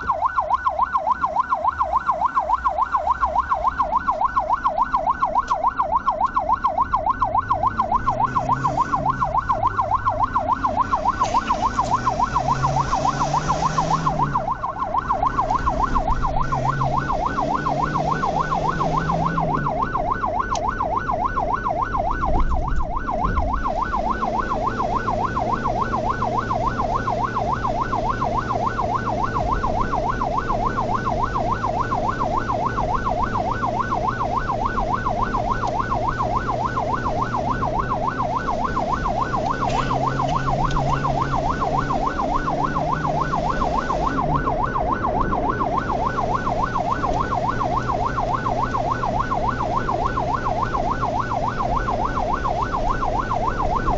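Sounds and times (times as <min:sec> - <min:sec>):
ambulance siren yelping: 0:00.0 - 0:53.9
engine hum and road noise: 0:00.0 - 0:53.9.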